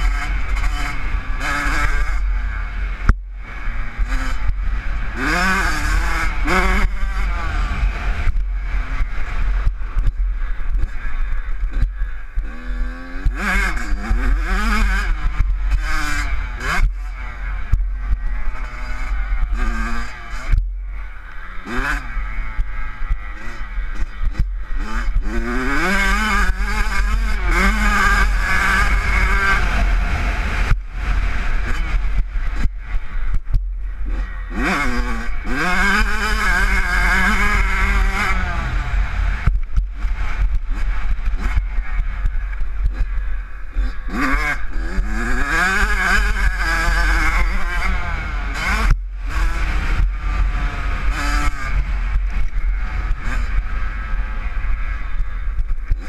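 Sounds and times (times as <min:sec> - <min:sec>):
dirt bike engine revving: 0:00.0 - 0:56.0
wind rumble on microphone: 0:00.0 - 0:56.0.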